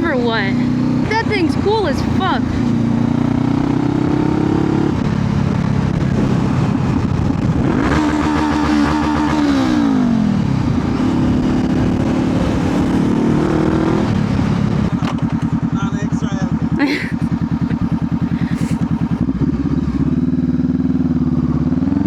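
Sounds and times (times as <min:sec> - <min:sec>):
motorcycle engine running: 0:00.0 - 0:22.0
road and wind noise: 0:00.0 - 0:22.0.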